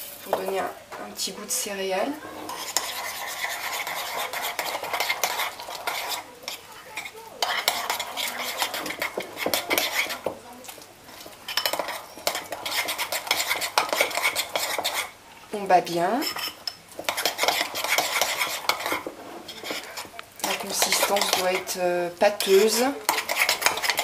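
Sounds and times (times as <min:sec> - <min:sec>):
spoon beating batter in bowl: 0:02.2 - 0:15.2, 0:16.2 - 0:24.0.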